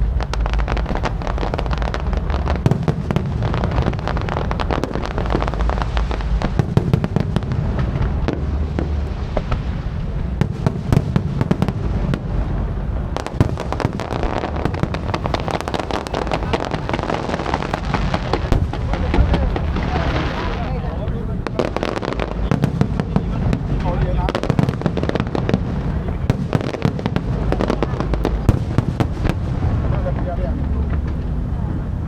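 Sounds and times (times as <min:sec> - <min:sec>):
booming firework shells: 0:00.0 - 0:31.9
fireworks crackling and popping: 0:00.0 - 0:32.0.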